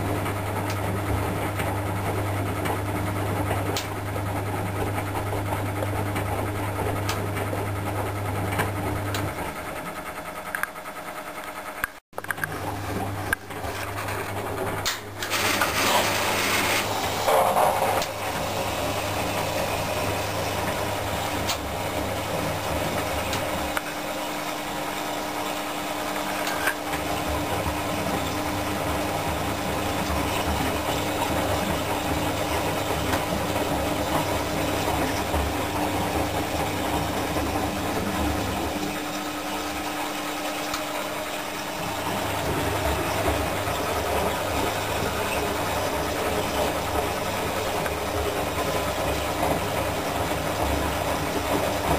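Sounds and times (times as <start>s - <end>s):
washing machine drum tumbling: 0.0s - 11.0s, 12.6s - 51.9s
low motor hum: 0.0s - 51.9s.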